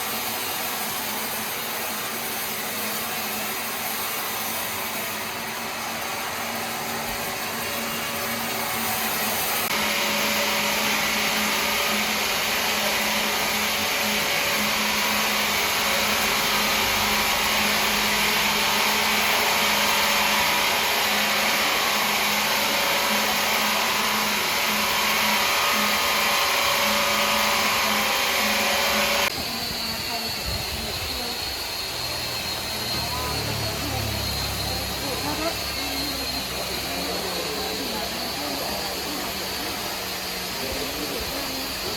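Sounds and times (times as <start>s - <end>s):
woodworking machine running: 0.0s - 41.9s.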